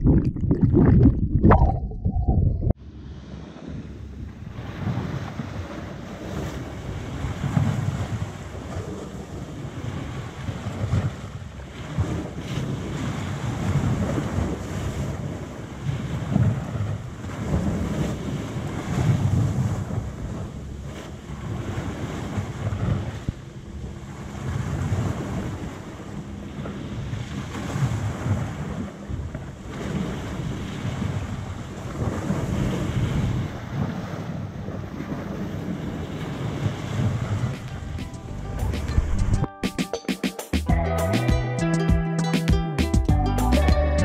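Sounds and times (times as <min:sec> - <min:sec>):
wind buffeting microphone: 0:00.0 - 0:02.8, 0:03.6 - 0:39.5
small waves breaking on sand: 0:02.9 - 0:38.2.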